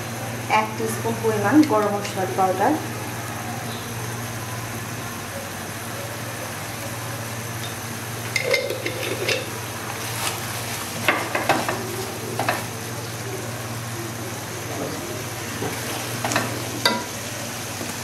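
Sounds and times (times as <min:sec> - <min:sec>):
sizzling: 0:00.0 - 0:18.0.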